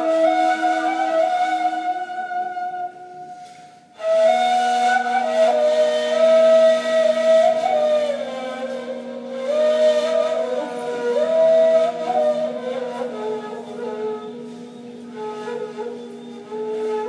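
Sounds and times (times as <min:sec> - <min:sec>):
flute holding low note: 0:00.0 - 0:17.0
flute melody: 0:00.0 - 0:17.0
reed flutes playing: 0:00.0 - 0:17.0.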